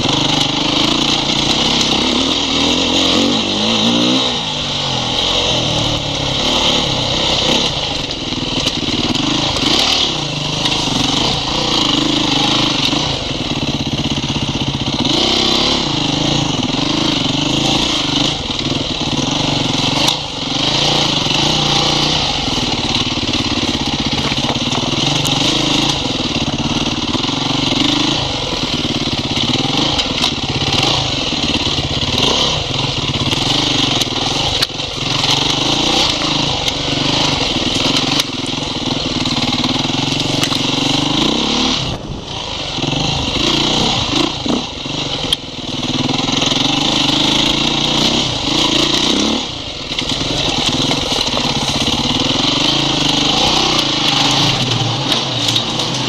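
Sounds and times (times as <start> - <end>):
motorcycle engine revving: 0.0 - 56.0
wind: 0.0 - 56.0.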